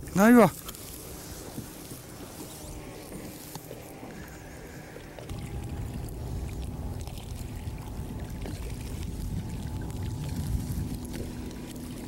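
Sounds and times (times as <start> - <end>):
faint steady hum: 0.0 - 12.0
water rumbling around boat hull: 0.0 - 12.0.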